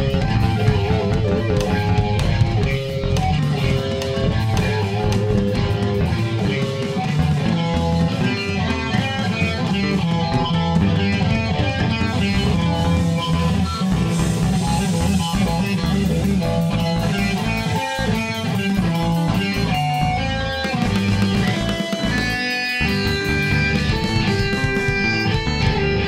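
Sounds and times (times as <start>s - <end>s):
bass guitar: 0.0s - 26.0s
drum kit beat: 0.0s - 26.0s
electric guitar: 0.0s - 26.0s.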